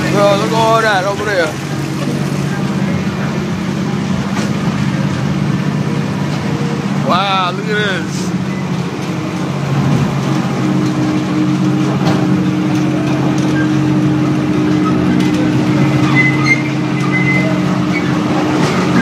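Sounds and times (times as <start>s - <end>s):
kiddie ride train motor humming: 0.0s - 19.0s.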